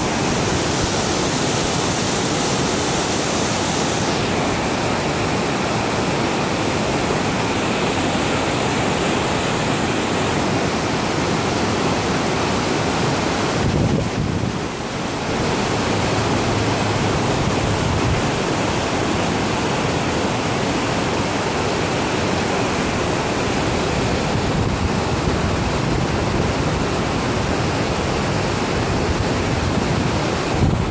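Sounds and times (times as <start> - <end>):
rapids rushing over rocks: 0.0 - 30.9.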